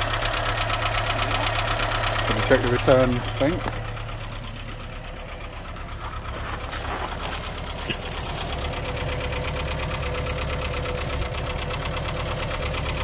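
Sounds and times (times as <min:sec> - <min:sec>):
van engine idling: 0:00.0 - 0:13.0.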